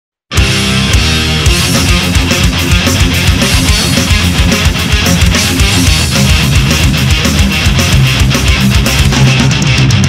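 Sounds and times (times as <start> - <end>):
distorted electric guitars: 0.3 - 10.0
fast driving drum beat: 0.3 - 10.0.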